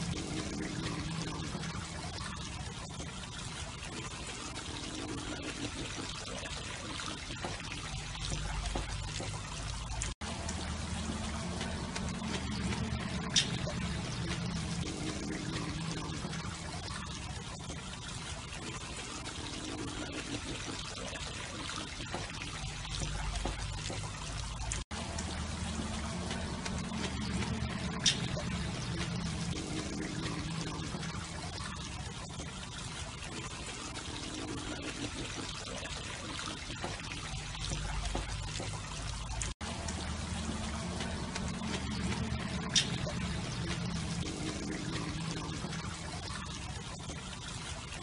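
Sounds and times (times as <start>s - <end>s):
running water trickling: 0.0s - 48.0s.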